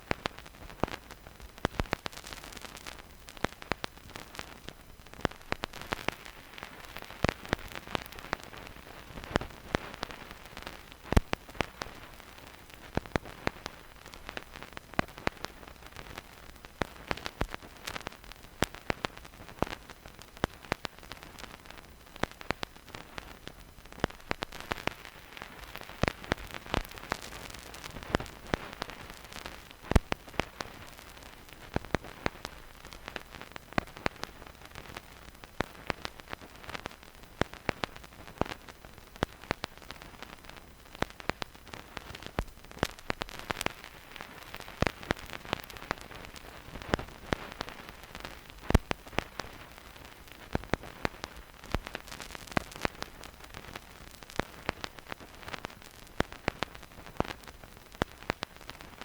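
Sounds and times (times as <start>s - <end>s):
steady record hiss: 0.0s - 59.0s
vinyl crackles and pops: 0.0s - 59.0s.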